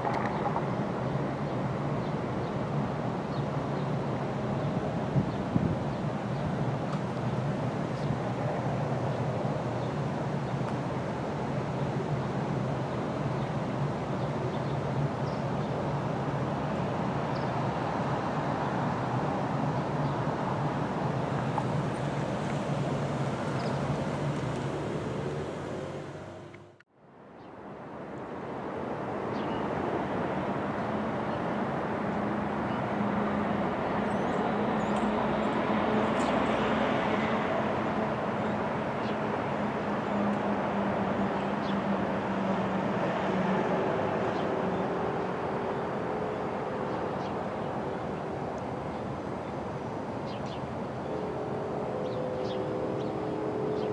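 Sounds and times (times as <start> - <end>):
city traffic noise: 0.0 - 53.9.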